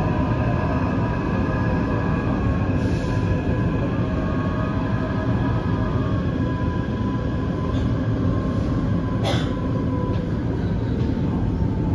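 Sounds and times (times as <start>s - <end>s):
train wheels rumbling on track: 0.0s - 11.9s.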